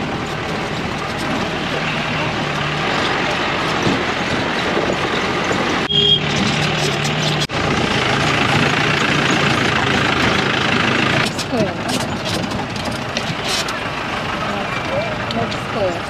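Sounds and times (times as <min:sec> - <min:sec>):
drivetrain noise: 0:00.0 - 0:16.0
off-road vehicle engine climbing: 0:00.0 - 0:16.0.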